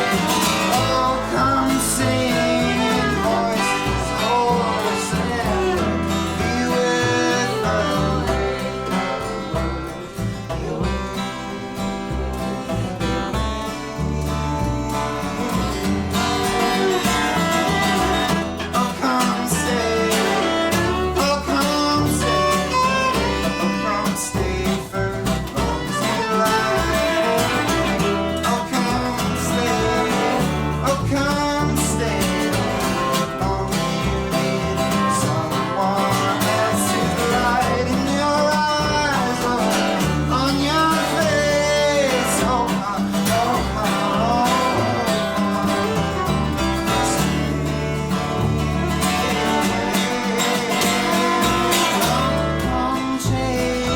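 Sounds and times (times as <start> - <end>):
acoustic guitar: 0.0 - 53.9
bass: 0.0 - 53.9
bowed viola melody: 0.0 - 53.9.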